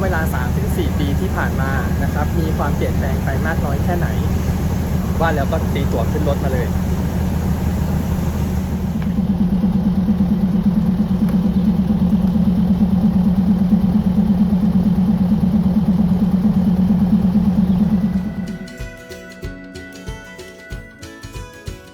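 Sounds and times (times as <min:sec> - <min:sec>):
diesel train engine droning: 0:00.0 - 0:20.6.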